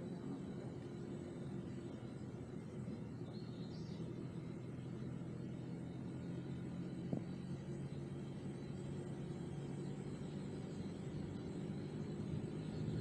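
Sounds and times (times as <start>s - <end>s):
car engine rumble: 0.0s - 13.0s
faint high chirp: 0.0s - 13.0s
road noise: 0.0s - 13.0s.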